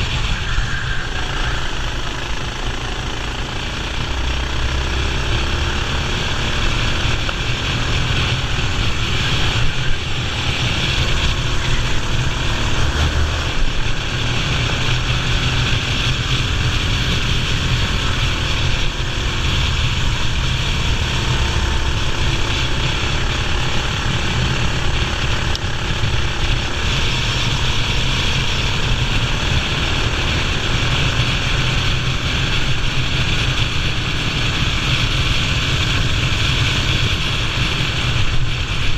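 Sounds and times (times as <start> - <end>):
kart engine droning at speed: 0.0 - 38.9.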